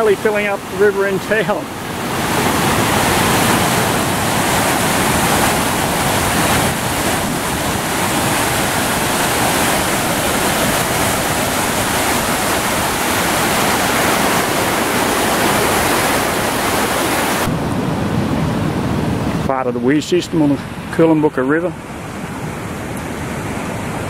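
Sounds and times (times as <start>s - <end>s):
water rushing over weir: 0.0s - 24.0s.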